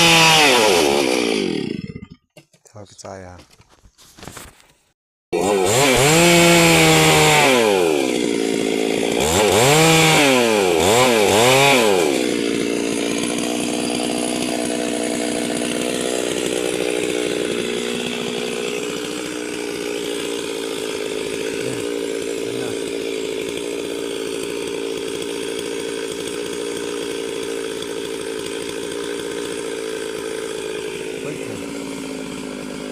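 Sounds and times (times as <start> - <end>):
chainsaw revving: 0.0 - 2.2, 5.4 - 32.9.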